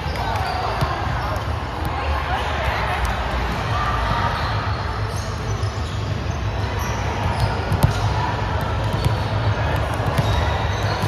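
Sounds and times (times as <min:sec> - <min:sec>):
sports hall background noise: 0:00.0 - 0:11.0.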